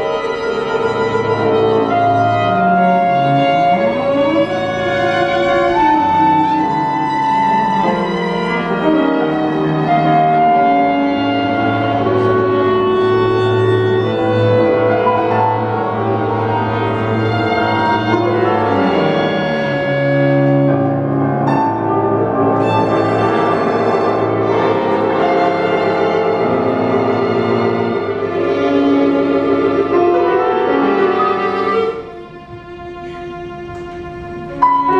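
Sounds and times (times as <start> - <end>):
chamber quartet playing: 0.0 - 34.9.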